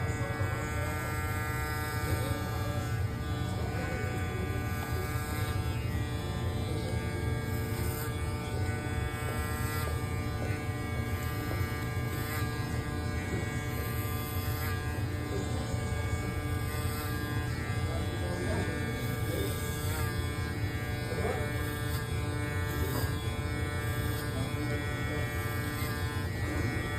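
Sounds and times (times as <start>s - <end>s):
electric hair clippers buzzing: 0.0s - 26.9s.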